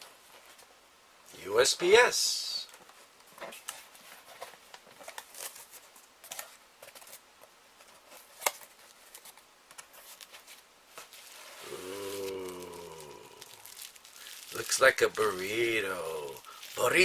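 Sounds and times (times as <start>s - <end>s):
low steady hum: 0.0s - 17.0s
packaging rustling: 3.4s - 17.0s.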